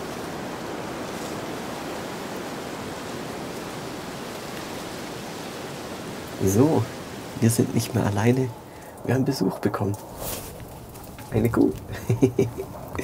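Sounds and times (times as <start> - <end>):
rushing wind: 0.0 - 13.0.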